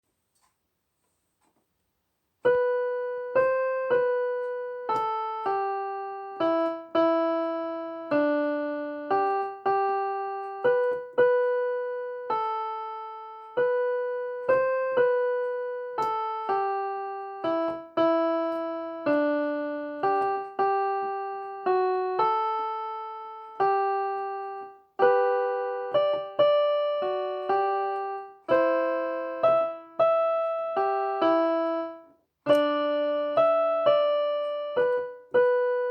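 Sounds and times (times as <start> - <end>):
slow keyboard melody: 2.4 - 35.9.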